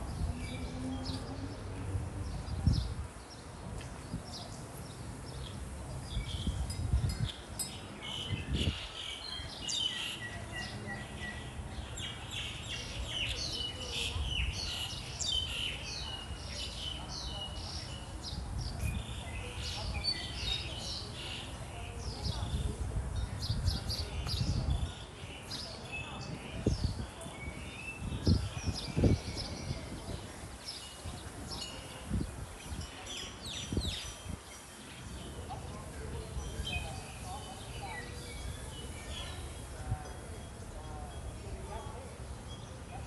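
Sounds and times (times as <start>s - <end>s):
small birds chirping: 0.0s - 40.1s.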